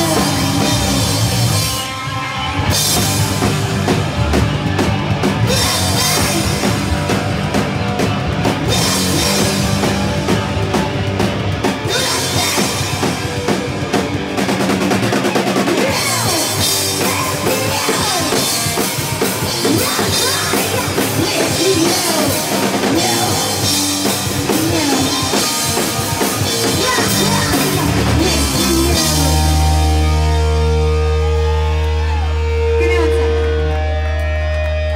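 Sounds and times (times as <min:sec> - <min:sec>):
drum kit pounding: 0:00.0 - 0:33.8
heavy rock band playing: 0:00.0 - 0:34.9.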